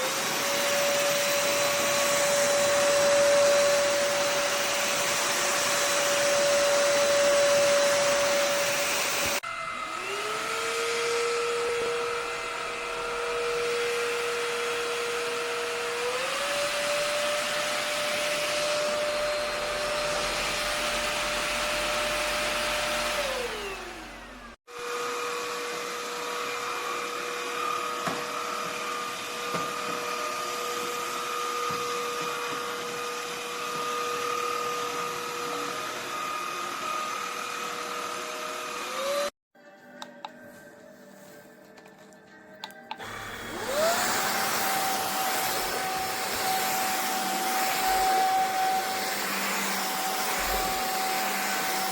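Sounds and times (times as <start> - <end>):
stick vacuum running: 0.0 - 39.3, 42.9 - 51.9.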